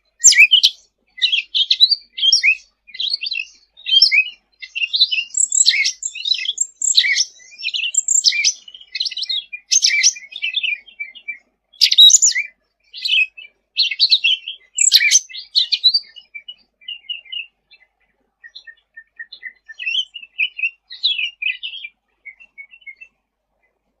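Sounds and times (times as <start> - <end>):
songbird chirping and whistling: 0.0 - 23.8.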